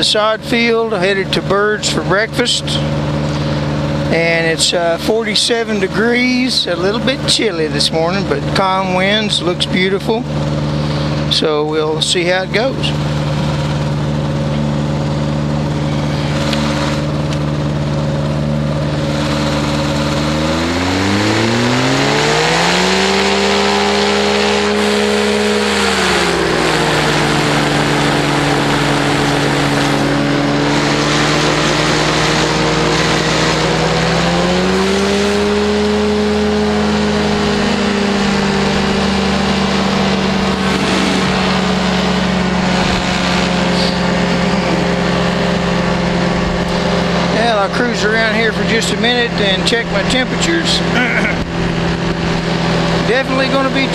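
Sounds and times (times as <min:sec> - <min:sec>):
engine and propeller running: 0:00.0 - 0:53.9.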